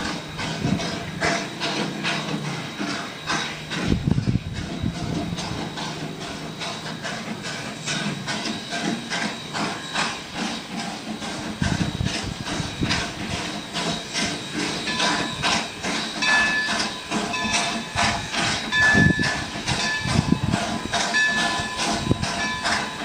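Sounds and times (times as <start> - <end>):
continuous knocks: 0.0 - 23.0
hissing steam: 0.0 - 23.0
train moving slowly: 0.0 - 23.0.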